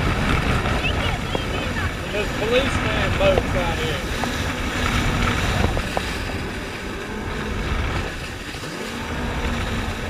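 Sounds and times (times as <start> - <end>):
jet ski engine drone: 0.0 - 10.0
water rushing: 0.0 - 10.0
wind buffeting microphone: 0.0 - 10.0.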